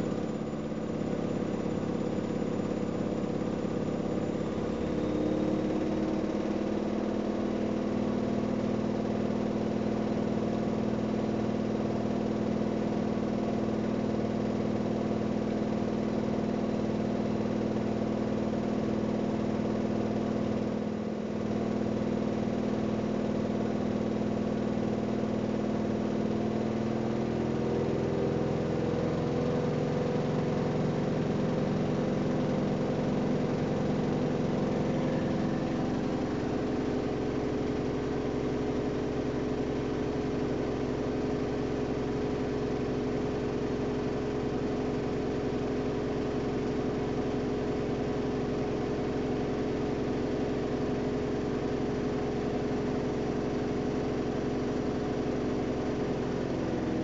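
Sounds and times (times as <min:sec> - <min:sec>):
washing machine motor and drum hum: 0:00.0 - 0:57.0.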